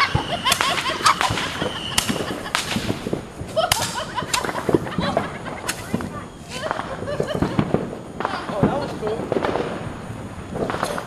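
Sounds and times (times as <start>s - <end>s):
fireworks cracking: 0.0s - 11.0s.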